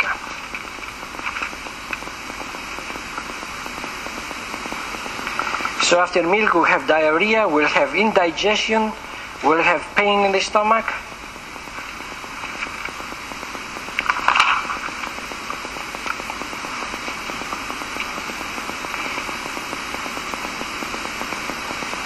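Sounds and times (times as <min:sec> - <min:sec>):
recording hiss and crackle: 0:00.0 - 0:22.0.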